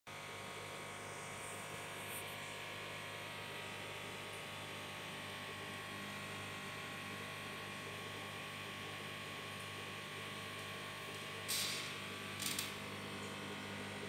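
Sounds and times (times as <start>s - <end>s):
aquarium equipment humming: 0.1s - 14.0s.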